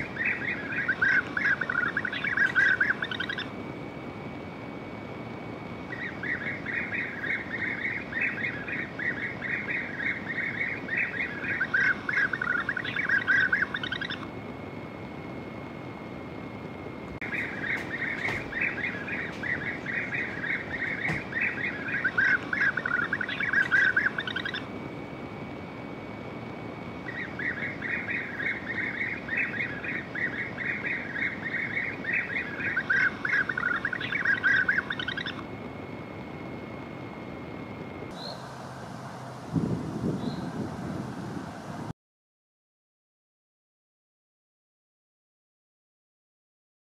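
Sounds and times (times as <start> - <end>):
birds rolling trills: 0.0 - 41.8
steady background noise: 0.0 - 41.9.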